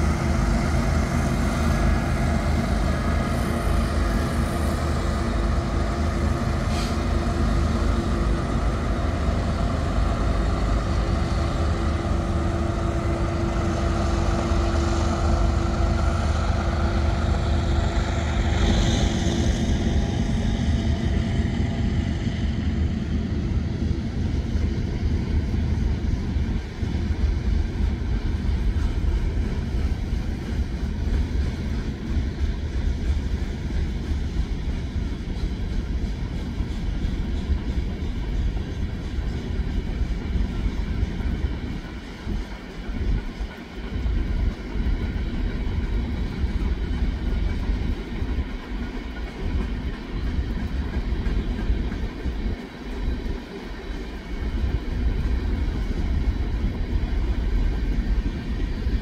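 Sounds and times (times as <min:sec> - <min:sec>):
locomotive engine drone: 0:00.0 - 0:59.0.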